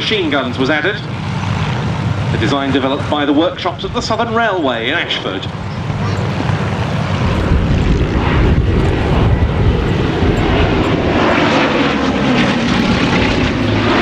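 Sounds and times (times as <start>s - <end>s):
aircraft engines droning: 0.0s - 14.0s.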